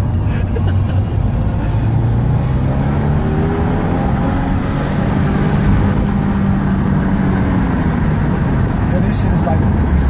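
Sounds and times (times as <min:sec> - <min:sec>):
car engine drone: 0:00.0 - 0:10.0
road and tyre rumble: 0:00.0 - 0:10.0.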